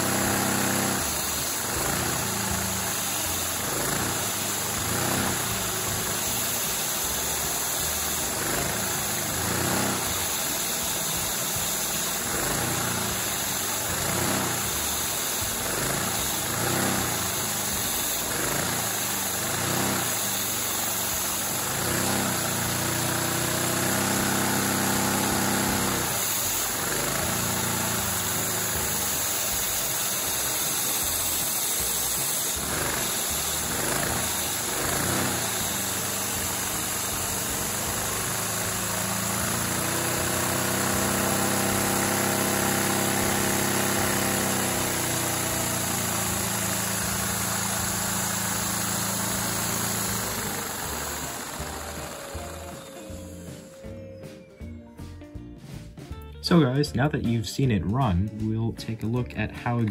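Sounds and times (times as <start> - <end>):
fast plastic rattle of pistons: 0.0 - 53.4
vacuum cleaner air rush and hum: 0.0 - 53.8.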